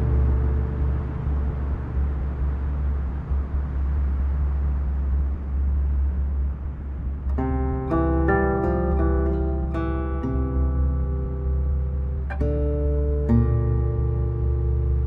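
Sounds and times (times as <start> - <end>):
ambient music drone: 0.0 - 15.0.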